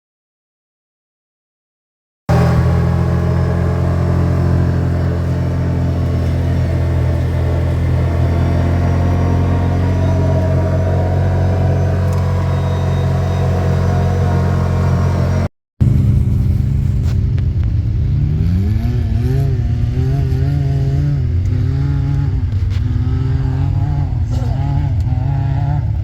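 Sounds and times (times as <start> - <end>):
atv engine droning: 2.3 - 26.0.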